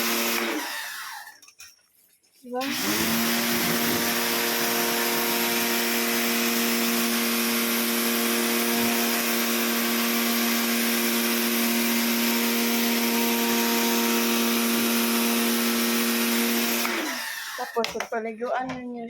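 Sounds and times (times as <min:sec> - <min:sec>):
pressure washer motor hum: 0:00.0 - 0:01.3, 0:02.6 - 0:18.0.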